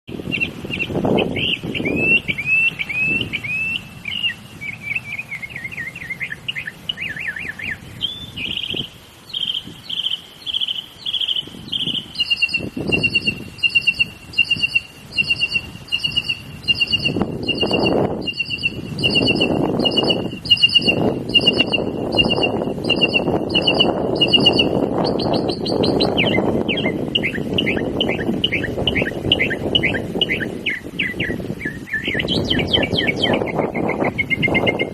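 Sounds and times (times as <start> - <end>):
mockingbird singing varied chirps: 0.1 - 34.9.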